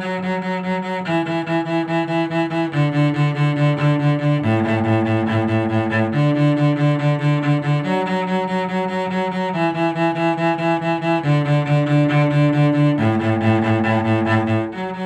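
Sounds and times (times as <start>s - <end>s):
bowed cello: 0.0s - 15.0s.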